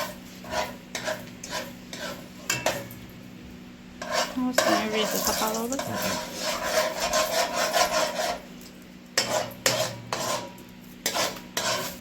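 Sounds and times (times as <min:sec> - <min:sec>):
spoon scraping a cooking pot: 0:00.0 - 0:02.9, 0:04.0 - 0:08.6, 0:09.2 - 0:12.0.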